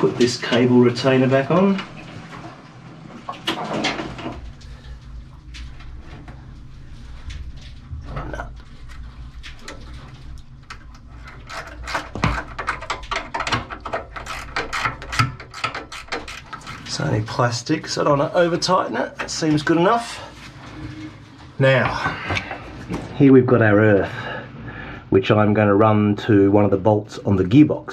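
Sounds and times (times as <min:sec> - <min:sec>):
low steady hum: 0:00.0 - 0:27.9.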